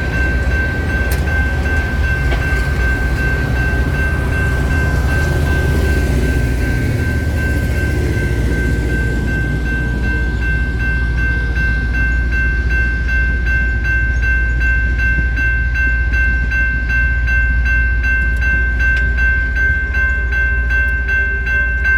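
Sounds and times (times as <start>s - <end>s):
rail grinder train rolling past: 0.0s - 21.9s.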